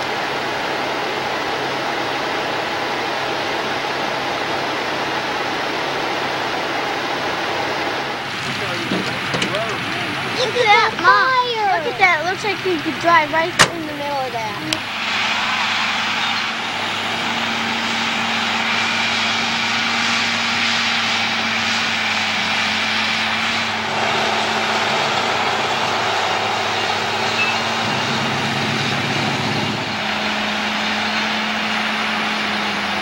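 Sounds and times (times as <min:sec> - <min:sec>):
road noise: 0:00.0 - 0:33.0
vehicle engine hum: 0:00.0 - 0:33.0.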